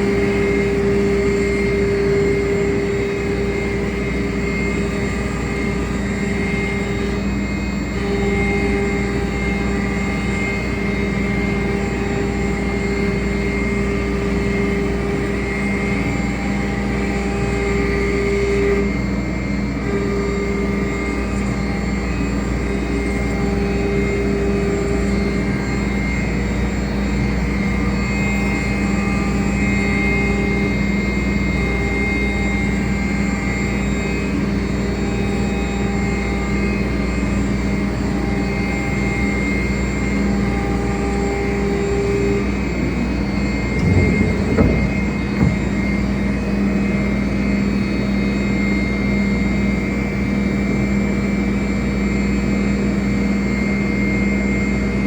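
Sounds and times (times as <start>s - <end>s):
cnc router whining drone: 0.0s - 55.0s.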